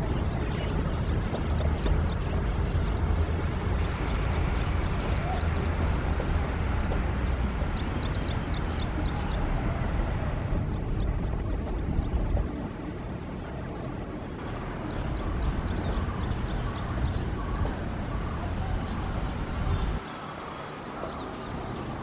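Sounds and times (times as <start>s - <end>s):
small birds chirping: 0.0s - 22.0s
train wheels rumbling on track: 0.0s - 22.0s.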